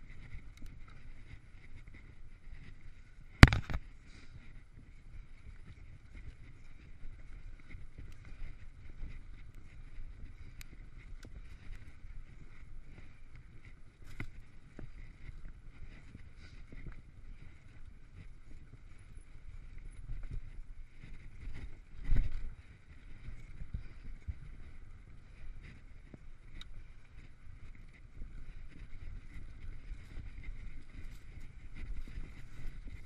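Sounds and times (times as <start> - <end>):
mountain bike rolling on dirt: 0.0 - 33.0
wind on microphone: 0.0 - 33.0.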